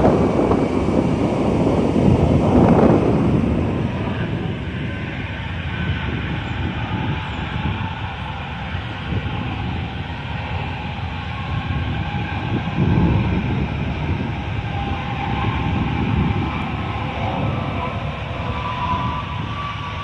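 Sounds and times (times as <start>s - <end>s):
truck engine and road rumble: 0.0s - 20.0s.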